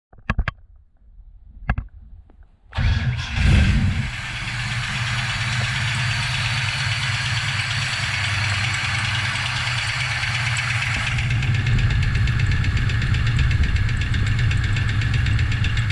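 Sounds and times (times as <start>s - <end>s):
car engine starting and idling: 2.7s - 15.9s
engine knock: 2.8s - 15.9s.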